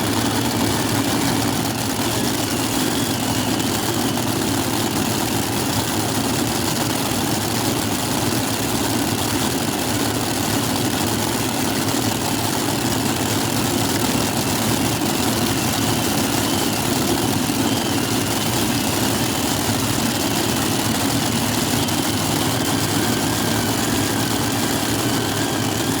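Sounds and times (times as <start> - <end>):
tractor engines idling: 0.0 - 26.0.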